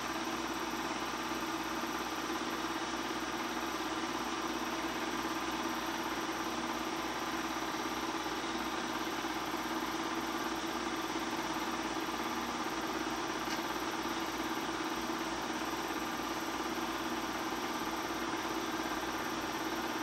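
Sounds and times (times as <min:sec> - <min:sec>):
film projector humming: 0:00.0 - 0:20.0.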